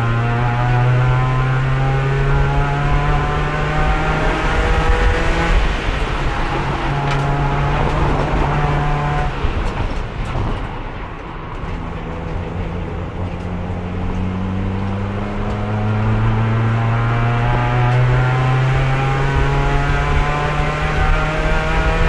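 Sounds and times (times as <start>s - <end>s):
race car engine from inside: 0.0s - 10.7s, 11.5s - 22.0s.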